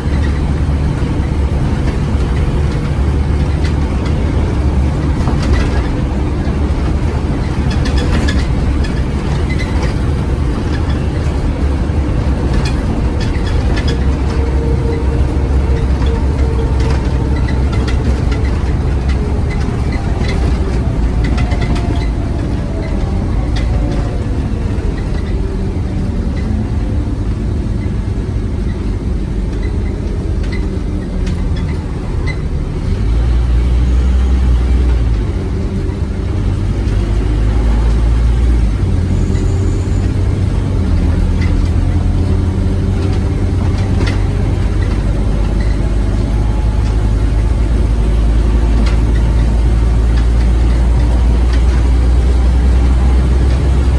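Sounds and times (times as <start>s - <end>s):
bus body rattles: 0.0s - 53.9s
bus diesel engine: 0.0s - 53.9s.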